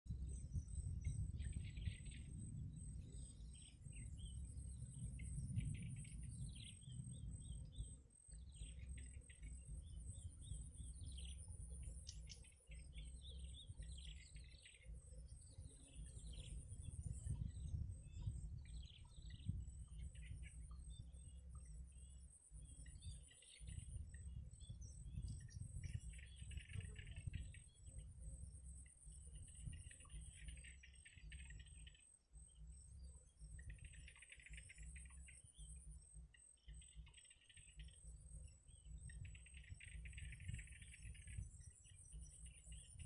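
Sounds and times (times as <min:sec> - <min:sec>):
birds chirping: 0:00.1 - 0:43.0
low steady rumble: 0:00.1 - 0:43.0.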